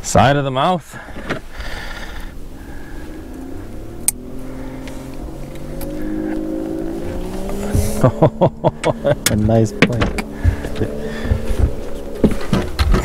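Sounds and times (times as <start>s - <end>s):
distant engine running: 1.6s - 13.0s.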